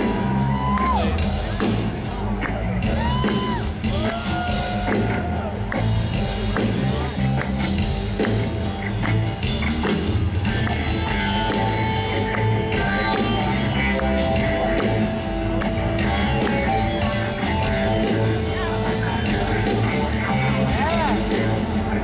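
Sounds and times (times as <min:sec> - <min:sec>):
heavy pulsing bass beat: 0:00.0 - 0:22.0
live rock band playing: 0:00.0 - 0:22.0.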